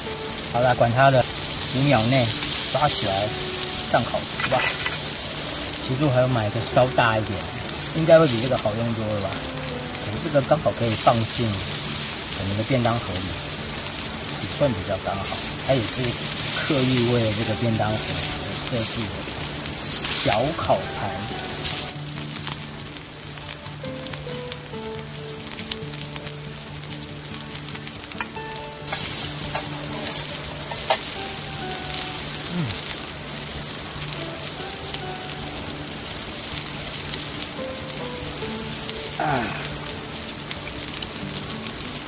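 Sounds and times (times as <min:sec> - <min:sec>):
sausage sizzling in pan: 0:00.0 - 0:42.0.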